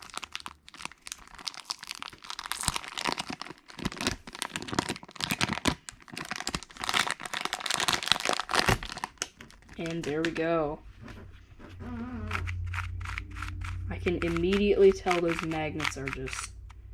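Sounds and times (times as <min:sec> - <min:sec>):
packaging crinkling and tearing: 0:00.0 - 0:10.5, 0:11.7 - 0:16.7.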